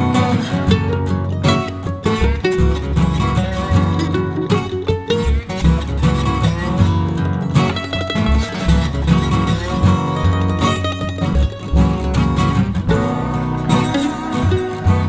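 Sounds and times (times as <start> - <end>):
bass line: 0.0 - 15.0
plucked acoustic guitar: 0.0 - 15.0.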